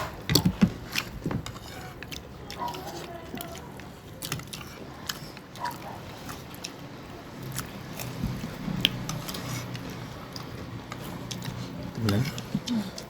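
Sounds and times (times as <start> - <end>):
people chewing food: 0.0 - 13.0.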